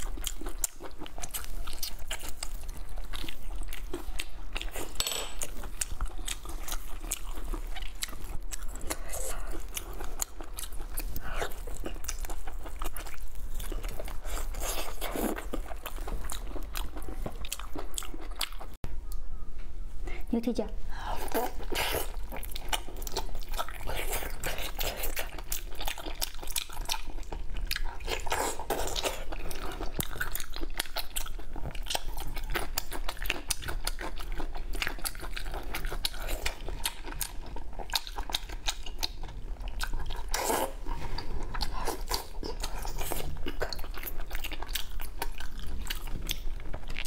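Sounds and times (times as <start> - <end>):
close chewing and biting: 0.0 - 18.8, 21.2 - 47.0.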